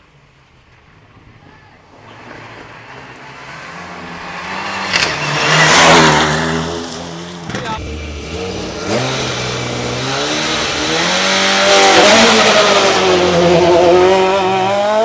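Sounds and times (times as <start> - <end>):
rally car engine passing: 0.8 - 15.0.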